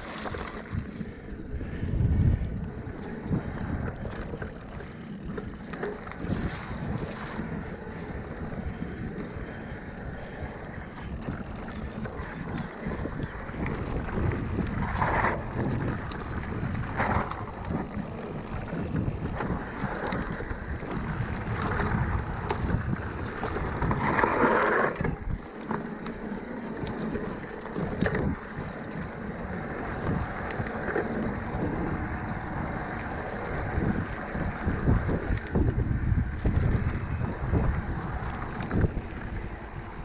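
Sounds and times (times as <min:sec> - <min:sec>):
mountain bike rattling on dirt trail: 0:00.0 - 0:40.0
wind buffeting microphone: 0:00.0 - 0:40.0.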